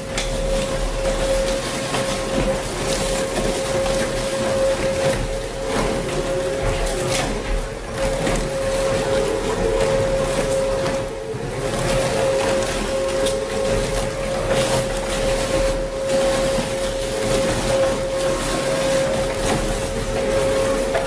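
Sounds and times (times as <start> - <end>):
shredder machine whine: 0.0 - 21.0.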